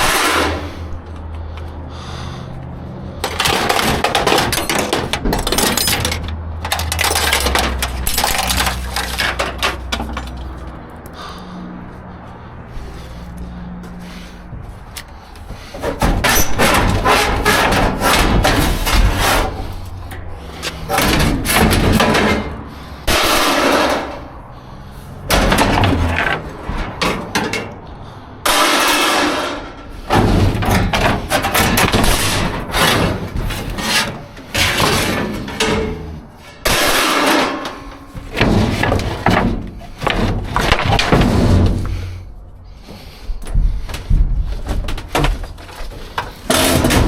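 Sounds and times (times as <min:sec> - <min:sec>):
scrap clattering in a dumpster: 0:00.0 - 0:01.0, 0:03.0 - 0:11.4, 0:13.9 - 0:47.0.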